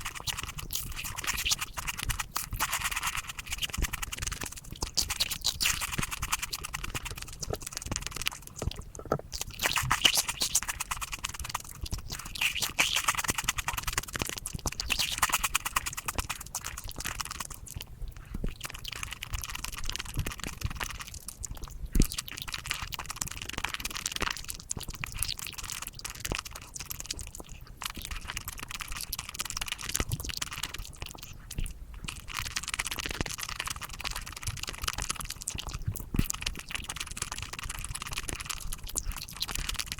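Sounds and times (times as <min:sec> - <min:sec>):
rapid chewing and crunching: 0:00.0 - 0:39.9.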